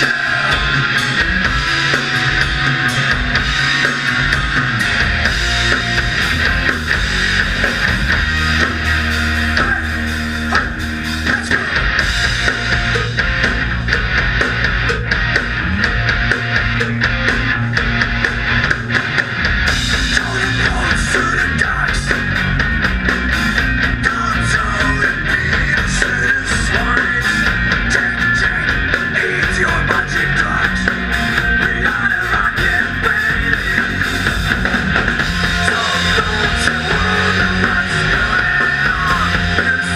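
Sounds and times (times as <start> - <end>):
drum kit: 0.0 - 39.9
electric guitars through amplifiers: 0.0 - 39.9.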